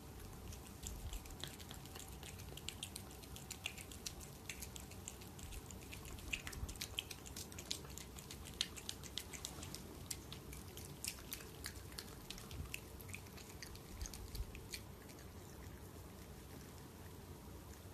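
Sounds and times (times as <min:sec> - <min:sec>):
cat crunching dry kibble: 0:00.1 - 0:15.5.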